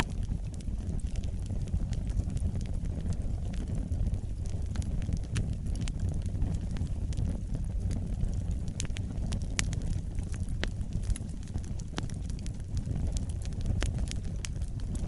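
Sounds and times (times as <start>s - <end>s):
fire flames rumbling: 0.0s - 15.0s
wood fire crackling and popping: 0.0s - 15.0s.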